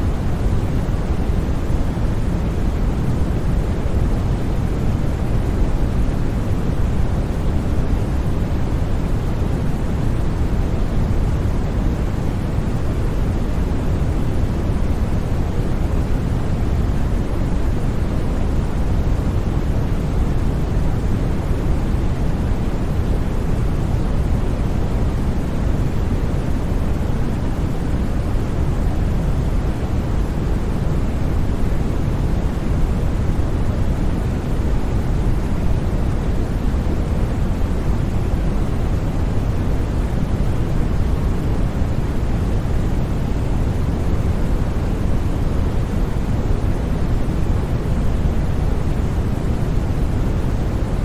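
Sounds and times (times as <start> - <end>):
white noise hiss: 0.0 - 51.0.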